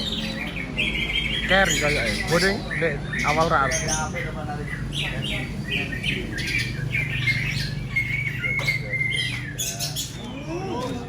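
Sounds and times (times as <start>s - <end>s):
songbirds singing and chattering: 0.0s - 11.0s.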